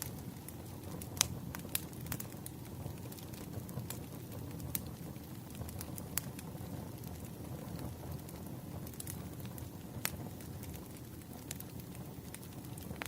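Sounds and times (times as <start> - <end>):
fire low rumble: 0.0 - 13.0
wood fire crackling: 0.0 - 13.0.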